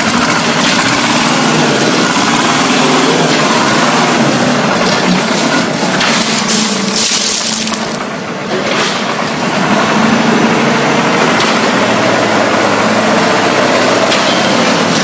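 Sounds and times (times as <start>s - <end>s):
concrete mixer pump running: 0.0s - 15.0s.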